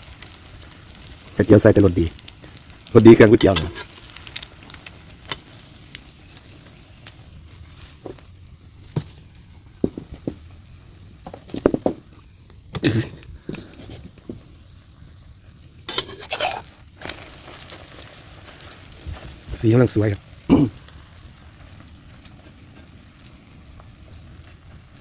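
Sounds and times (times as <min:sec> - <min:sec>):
egg sizzling in hot oil: 0:00.0 - 0:25.0.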